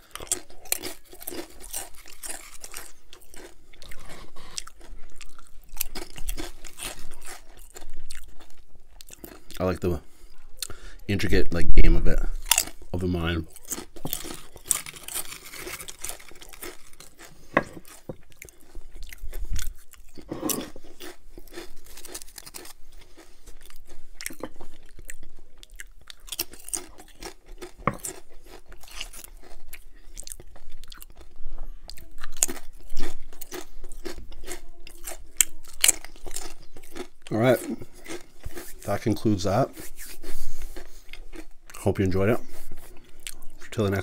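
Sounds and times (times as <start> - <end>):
potato chips crunching: 0.0 - 10.0, 12.3 - 44.0.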